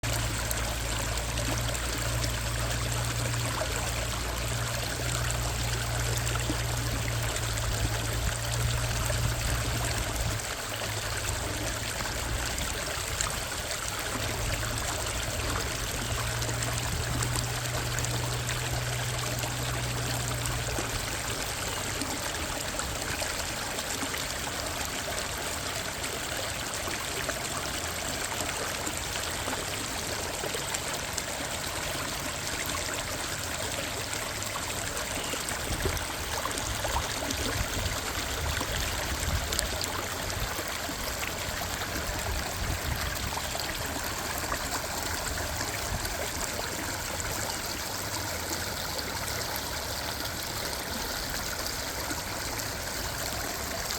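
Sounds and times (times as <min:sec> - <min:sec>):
creek water rushing and splashing: 0:00.0 - 0:53.9.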